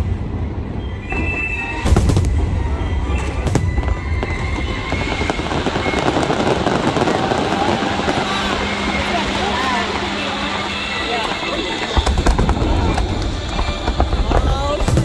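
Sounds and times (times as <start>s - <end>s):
firework crackling: 0.0s - 15.0s
sharp firework reports: 0.0s - 15.0s
firework shells booming: 1.3s - 10.9s, 11.5s - 15.0s.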